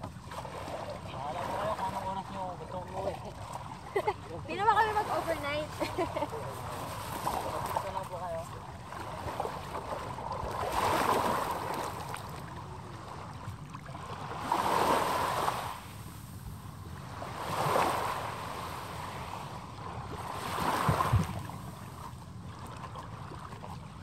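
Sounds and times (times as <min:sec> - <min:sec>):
waves washing on sandy shore: 0:00.0 - 0:24.0.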